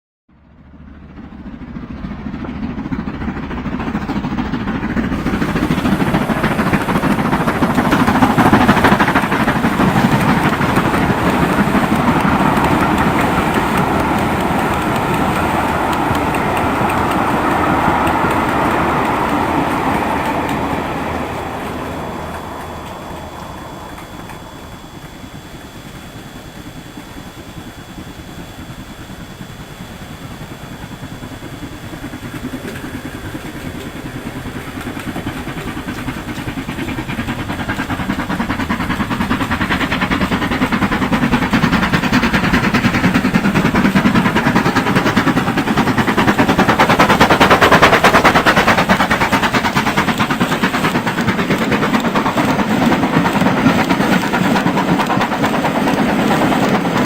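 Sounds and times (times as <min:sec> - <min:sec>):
model locomotive clicking on track: 0:01.2 - 0:57.0.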